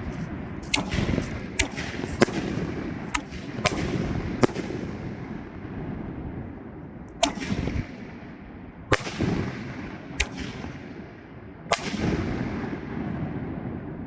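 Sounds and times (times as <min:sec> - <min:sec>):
rumbling echo: 0:00.0 - 0:14.0.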